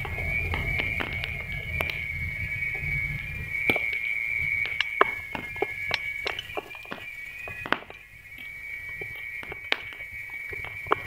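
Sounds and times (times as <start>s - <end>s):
fire crackling and popping: 0.0s - 11.0s
steady high whistle: 0.0s - 11.0s.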